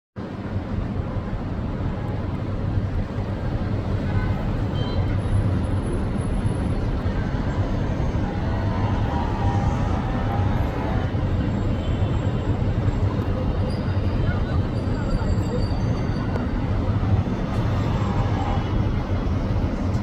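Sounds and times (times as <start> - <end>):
street traffic rumble: 0.2 - 20.0.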